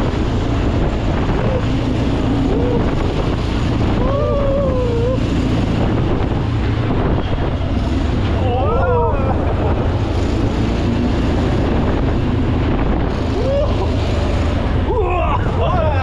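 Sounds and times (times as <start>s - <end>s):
vehicle engine running: 0.0s - 16.0s
wind on microphone: 0.0s - 16.0s.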